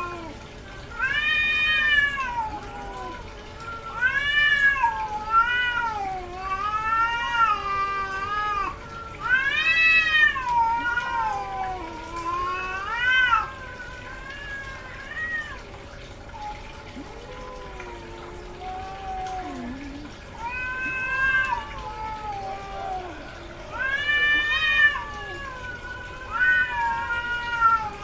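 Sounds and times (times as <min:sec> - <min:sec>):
cat yowling: 0:00.0 - 0:28.0.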